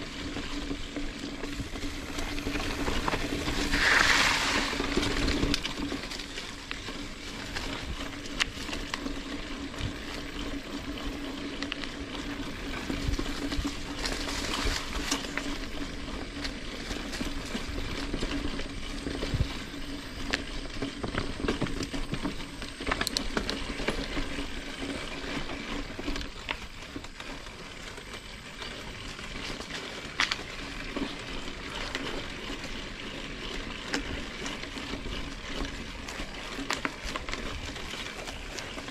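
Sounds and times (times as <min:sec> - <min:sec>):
bike clicking and rattling: 0:00.0 - 0:38.9
bike tyres crackling on leaves: 0:00.0 - 0:38.9.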